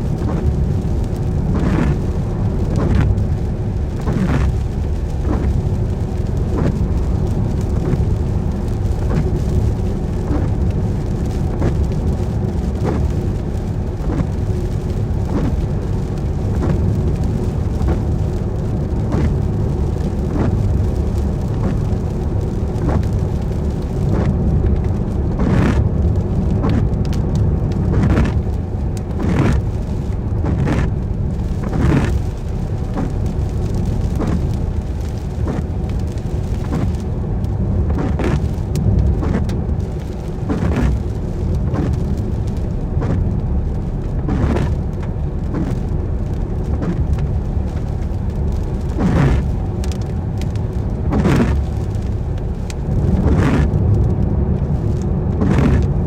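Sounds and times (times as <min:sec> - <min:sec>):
engine and tyres on wet road: 0:00.0 - 0:56.0
windscreen wipers swishing: 0:00.0 - 0:56.0.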